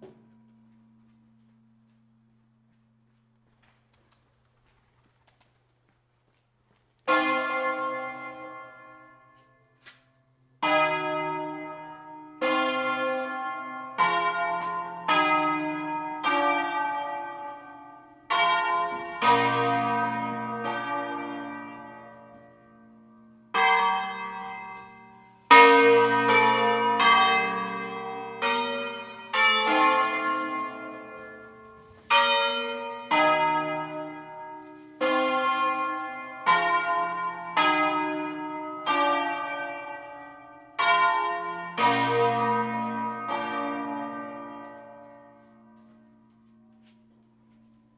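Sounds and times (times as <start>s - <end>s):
church bell strokes: 7.1s - 47.9s.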